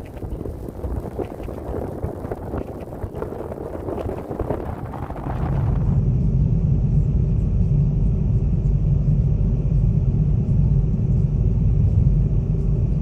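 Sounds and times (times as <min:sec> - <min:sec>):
road vehicle low rumble: 0:00.0 - 0:13.0.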